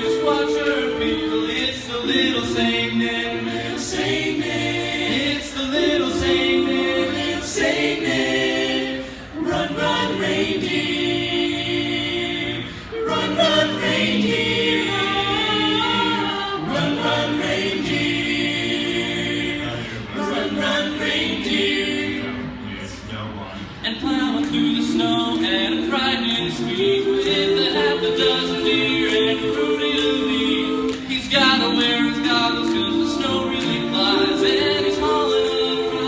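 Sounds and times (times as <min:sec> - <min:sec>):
vocal group singing harmony: 0:00.0 - 0:36.0.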